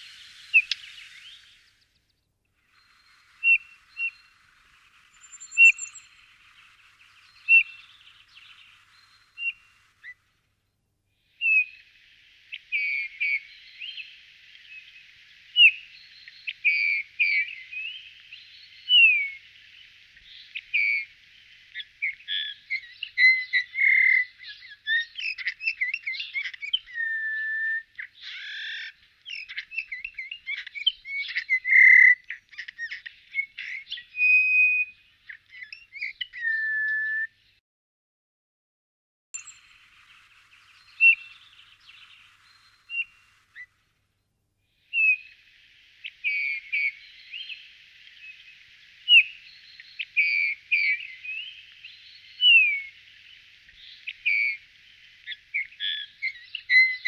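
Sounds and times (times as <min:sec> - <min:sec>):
songbirds chirping: 0:00.0 - 0:37.6, 0:39.4 - 0:57.0.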